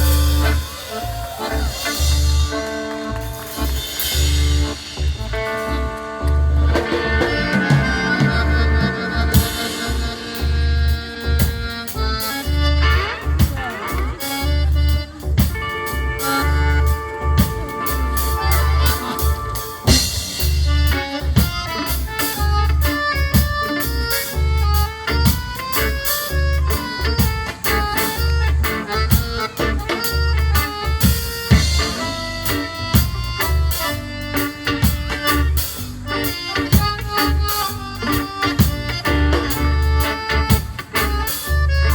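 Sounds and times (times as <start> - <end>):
accordion melody: 0.0 - 41.9
drums: 0.0 - 41.9
guitar: 0.0 - 41.9
pulsing bass line: 0.0 - 41.9.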